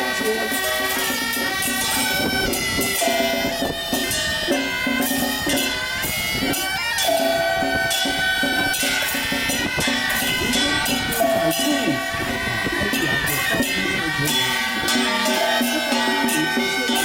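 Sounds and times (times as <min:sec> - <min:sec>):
clashing gongs and cymbals: 0:00.0 - 0:17.0
shrill double-reed horns: 0:00.0 - 0:17.0.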